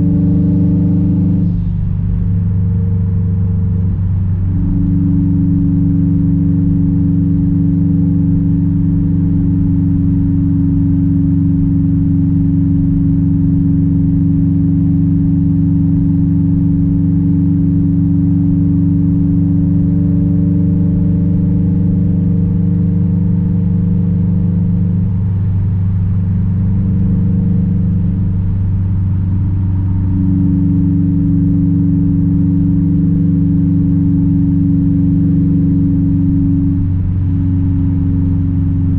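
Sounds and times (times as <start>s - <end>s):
car engine exhaust drone: 0.0s - 38.9s.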